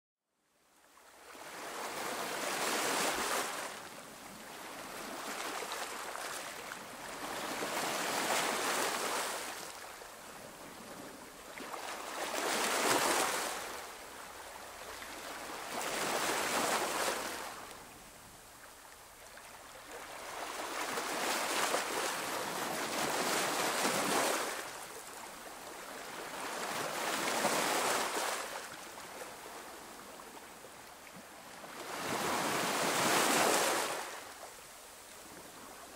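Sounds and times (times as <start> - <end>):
sea waves washing on shore: 1.3 - 35.9.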